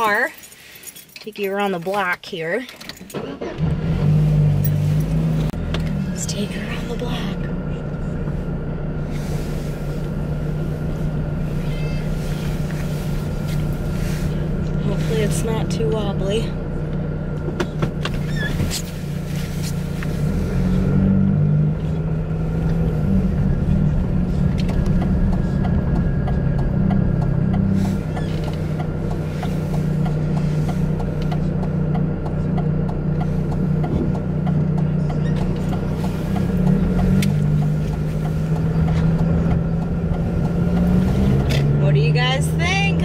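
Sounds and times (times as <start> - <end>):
car engine and road drone: 0.0 - 43.0.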